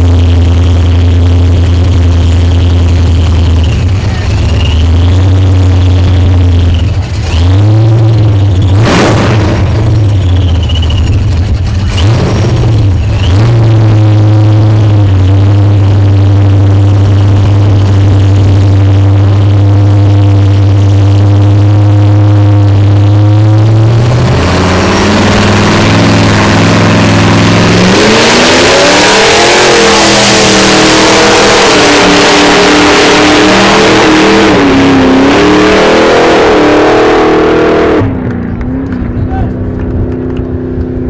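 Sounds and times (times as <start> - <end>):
drag racing car engine revving: 0.0 - 41.0.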